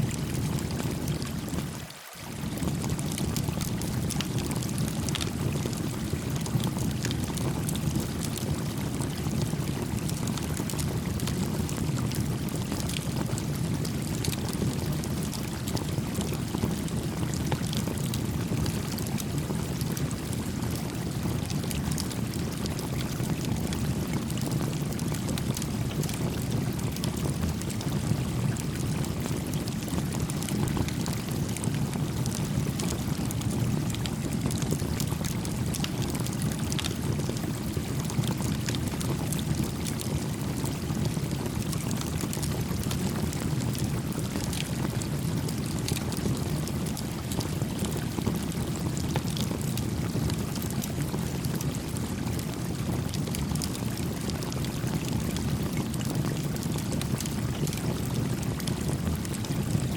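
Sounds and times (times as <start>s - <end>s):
campfire crackling and popping: 2.5s - 10.0s, 10.6s - 54.3s, 56.0s - 59.8s.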